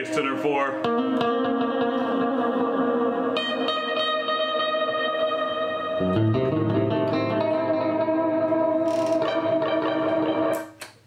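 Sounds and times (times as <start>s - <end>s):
electric guitar chords ringing: 0.0s - 10.8s.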